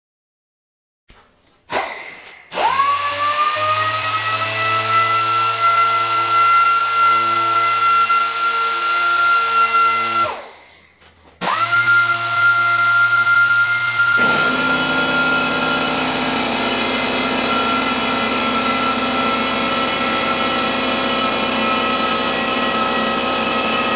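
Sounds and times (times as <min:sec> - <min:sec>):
pneumatic sander whine: 0:01.7 - 0:23.9.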